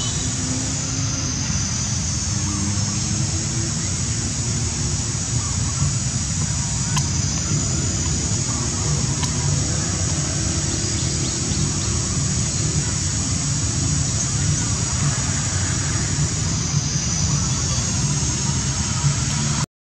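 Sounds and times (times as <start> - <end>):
even high hiss: 0.0 - 19.7.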